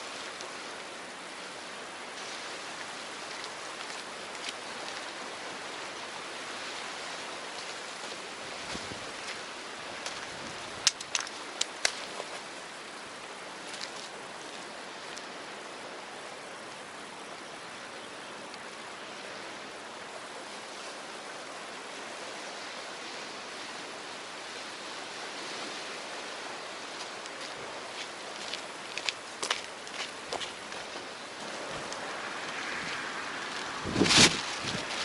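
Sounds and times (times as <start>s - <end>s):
sea waves at the shore: 0.0s - 35.0s.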